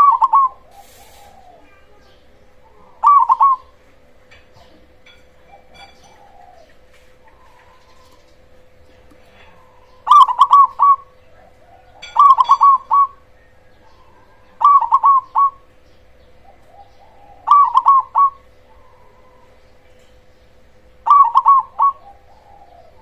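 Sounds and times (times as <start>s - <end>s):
dove cooing: 0.0s - 23.0s
faint steady hum: 0.0s - 23.0s.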